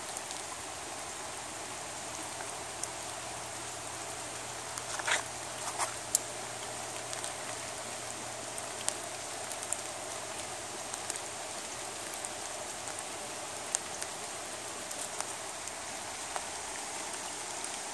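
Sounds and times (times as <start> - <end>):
light rain hissing: 0.0 - 17.9
rain drops ticking: 0.0 - 17.9.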